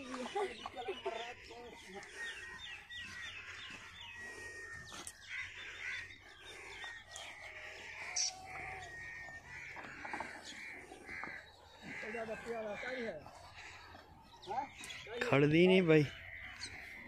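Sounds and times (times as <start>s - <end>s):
birds chirping: 0.0s - 17.0s
crows cawing: 0.0s - 17.0s.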